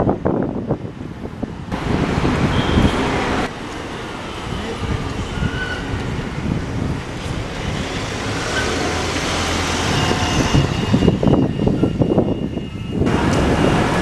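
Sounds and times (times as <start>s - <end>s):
wind buffeting microphone: 0.0s - 3.5s, 4.3s - 14.0s
bus driving past: 1.8s - 14.0s.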